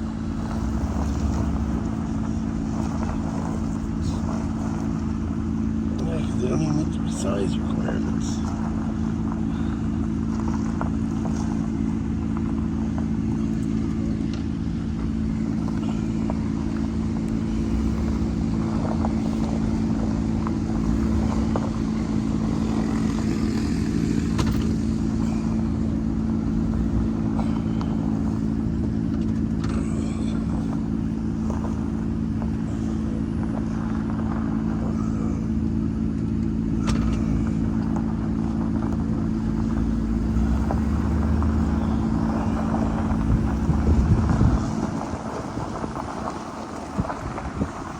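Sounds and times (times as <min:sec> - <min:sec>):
vehicle engine humming: 0:00.0 - 0:47.9.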